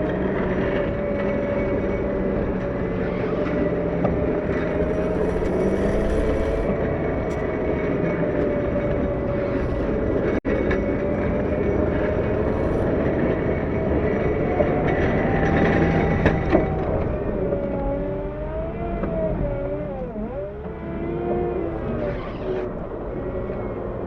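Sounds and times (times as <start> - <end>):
wheel loader diesel engine running: 0.0 - 24.0.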